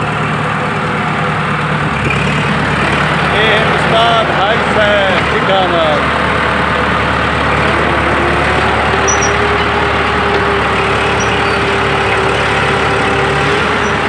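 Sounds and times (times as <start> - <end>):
bulldozer diesel engine running: 0.0 - 14.0
steady whine: 0.0 - 14.0.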